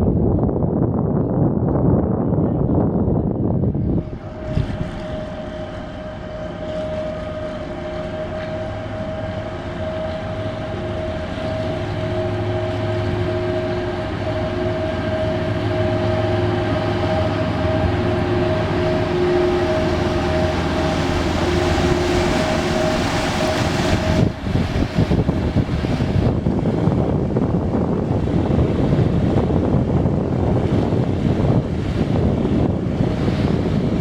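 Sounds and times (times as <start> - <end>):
loud rumbling noise: 0.0 - 34.0
ship diesel engine drone: 2.6 - 34.0.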